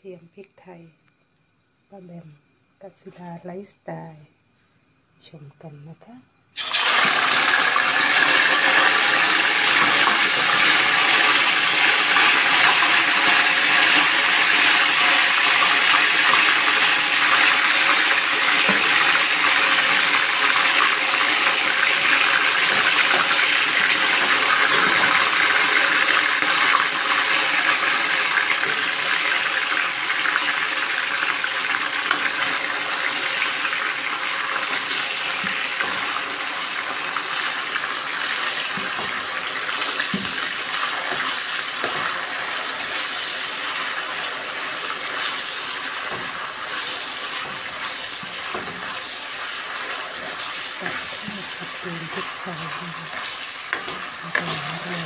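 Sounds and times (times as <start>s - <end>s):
liver sizzling in hot oil: 6.6s - 55.0s.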